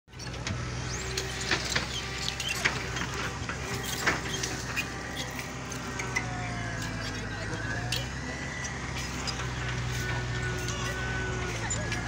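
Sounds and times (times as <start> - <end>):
heavy machinery engine humming: 0.1 - 12.0.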